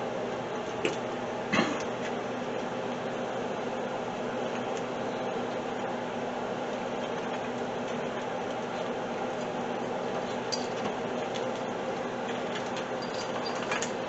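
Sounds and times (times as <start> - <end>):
steady kitchen hiss: 0.0 - 14.0.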